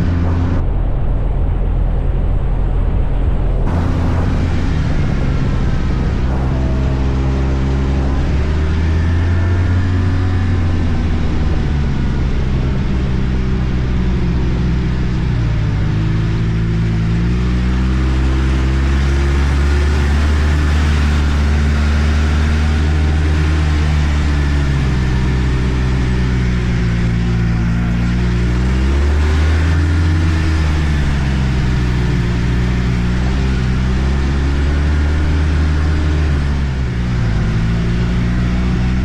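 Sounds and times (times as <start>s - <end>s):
snowmobile engine running: 0.0s - 0.6s, 3.7s - 39.0s.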